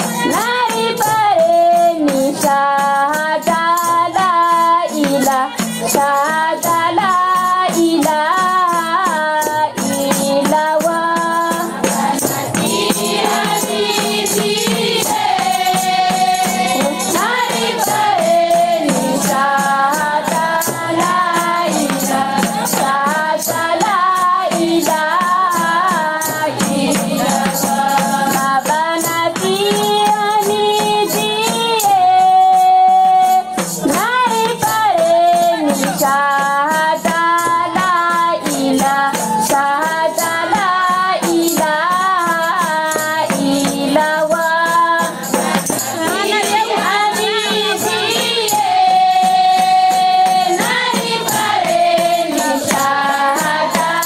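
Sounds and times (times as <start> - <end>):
women's choir singing: 0.0 - 8.3, 9.1 - 54.0
hand percussion beat: 0.0 - 54.0.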